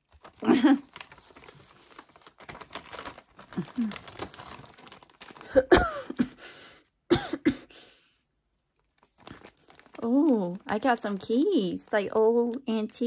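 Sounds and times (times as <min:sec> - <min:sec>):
plastic bags crinkling: 0:00.0 - 0:06.4, 0:08.8 - 0:13.0.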